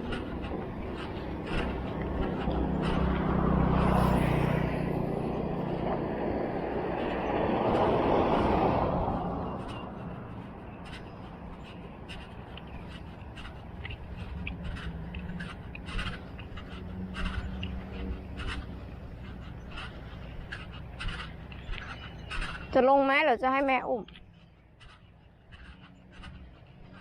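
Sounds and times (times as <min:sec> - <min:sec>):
motor vehicle passing by: 0:00.0 - 0:22.8, 0:24.3 - 0:27.0.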